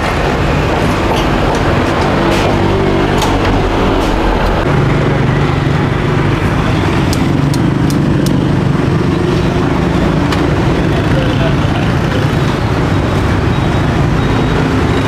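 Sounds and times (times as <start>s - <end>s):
engine humming: 0.0s - 15.0s
street traffic: 0.0s - 15.0s.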